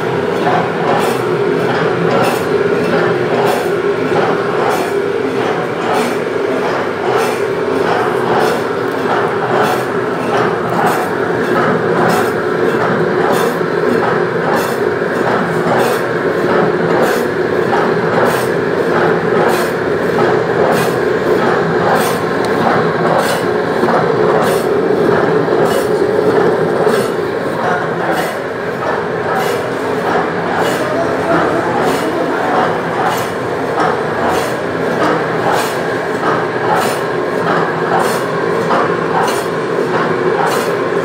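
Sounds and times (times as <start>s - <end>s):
steady motor hum: 0.0s - 41.0s.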